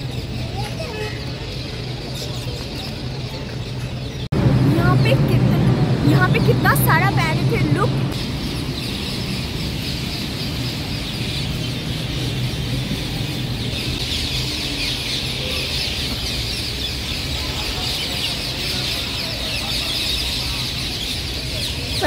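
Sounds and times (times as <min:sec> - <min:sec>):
birds calling and chattering: 0:00.0 - 0:22.0
city traffic rumble: 0:00.0 - 0:22.0.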